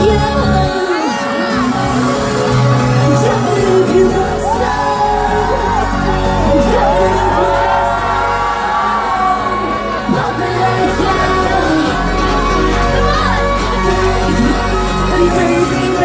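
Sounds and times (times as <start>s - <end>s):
pop song over sound system: 0.0s - 16.0s
people yelling and whooping: 3.0s - 16.0s.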